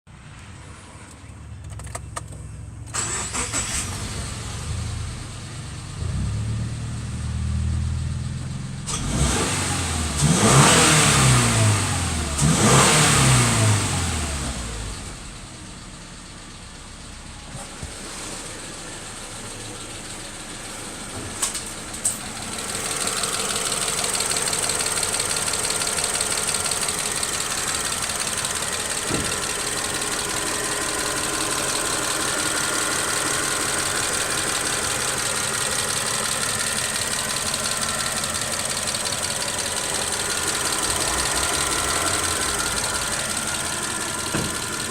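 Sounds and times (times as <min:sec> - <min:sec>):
car engine revving and idling: 0:00.2 - 0:44.9.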